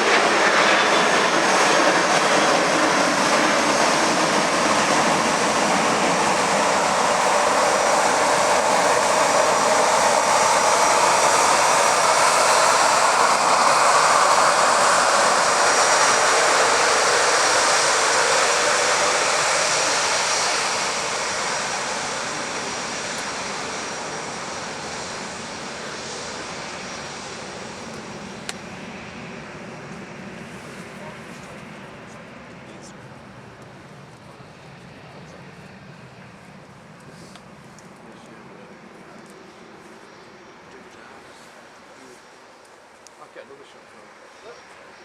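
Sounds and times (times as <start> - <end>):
jet engines roaring past: 0.0 - 45.0.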